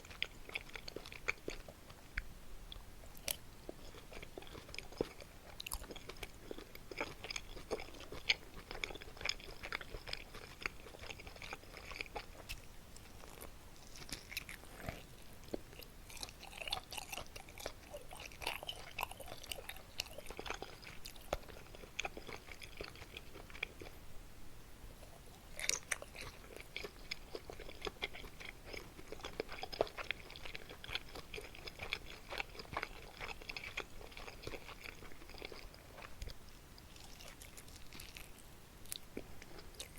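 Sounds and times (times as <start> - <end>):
wet chewing and smacking: 0.0 - 24.0, 25.4 - 39.9.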